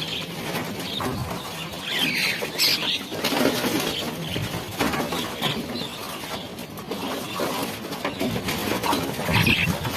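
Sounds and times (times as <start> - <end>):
birds chirping: 0.0 - 9.9.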